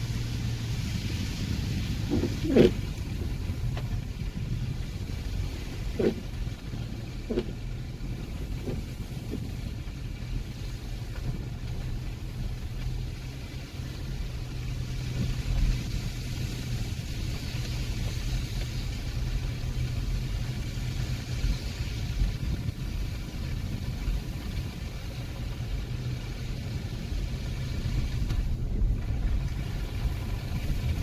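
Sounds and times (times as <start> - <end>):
car engine running: 0.0 - 31.0
tyres hissing on road: 0.0 - 31.0.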